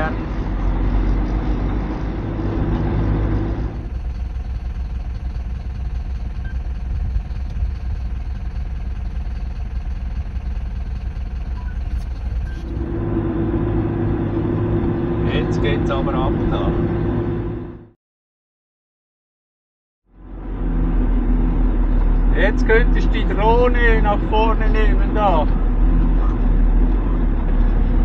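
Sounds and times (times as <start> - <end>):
truck diesel engine droning: 0.0 - 18.0, 20.1 - 28.0.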